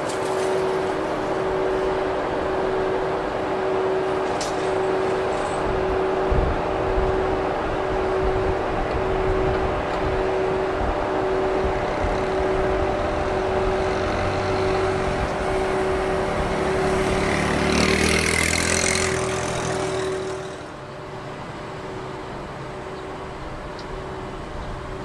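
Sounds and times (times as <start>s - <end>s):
electric train running: 0.0s - 25.0s.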